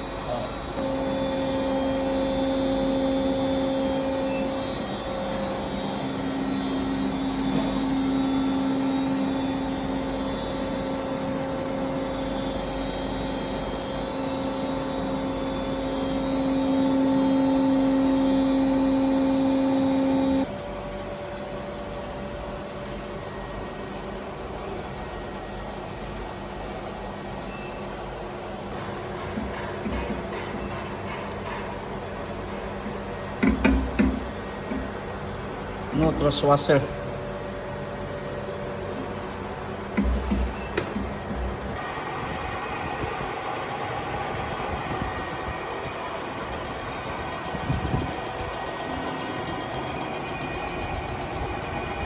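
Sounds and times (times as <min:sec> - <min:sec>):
electric machine humming and whining: 0:00.0 - 0:52.0.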